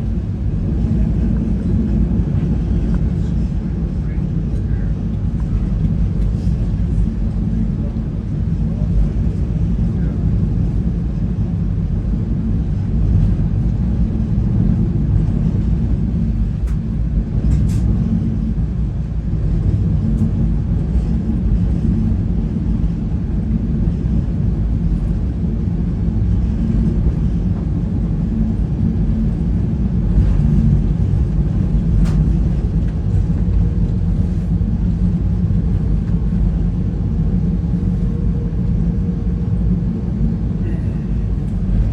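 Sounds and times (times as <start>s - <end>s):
train car rumbling on track: 0.0s - 41.9s.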